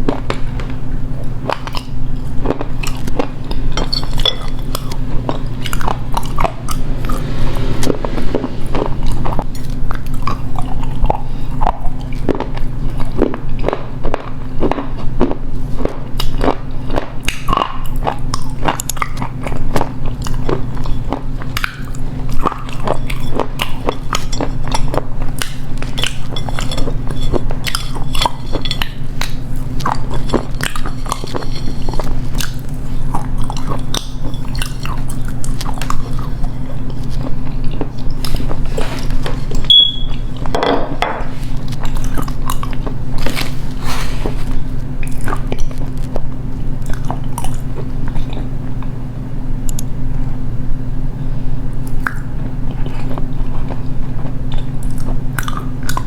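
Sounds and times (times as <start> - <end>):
crunchy chewing of clay: 0.0 - 6.5, 11.1 - 40.5, 41.3 - 48.9, 51.8 - 56.0
steady low hum: 0.0 - 56.0.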